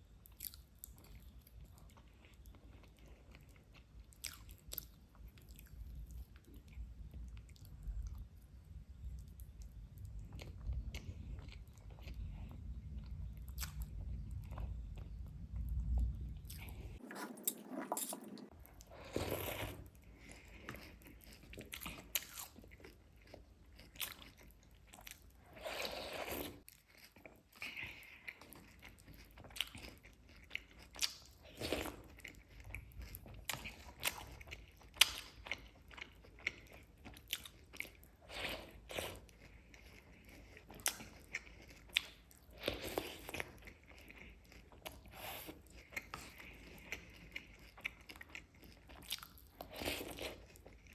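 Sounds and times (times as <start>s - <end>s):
chewing and crunching cake: 0.0s - 50.9s.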